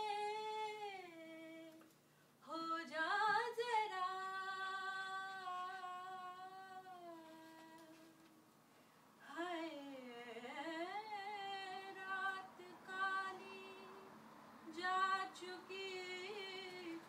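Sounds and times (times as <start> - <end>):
woman singing unaccompanied: 0.0 - 8.2, 9.2 - 17.0.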